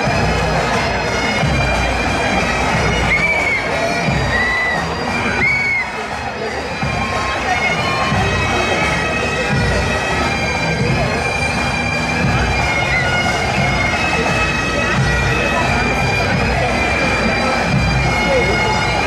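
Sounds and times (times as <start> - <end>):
bagpipes playing a tune: 0.0 - 19.0.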